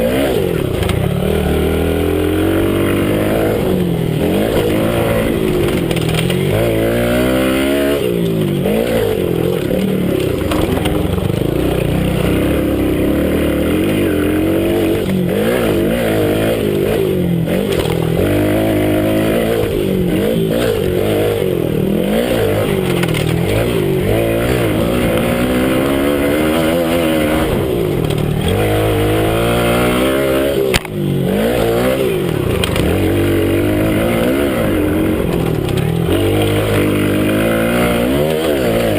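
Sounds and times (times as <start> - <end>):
minibike engine revving: 0.0 - 38.9.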